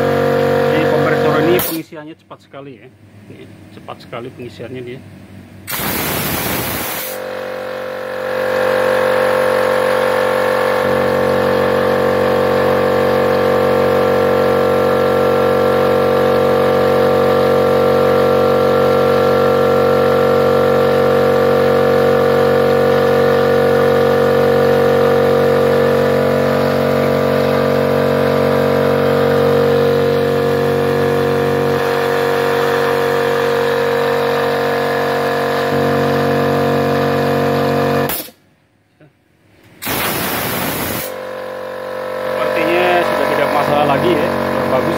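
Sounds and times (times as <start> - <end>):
electric air compressor running: 0.0 - 2.0, 5.6 - 38.4, 39.8 - 44.9.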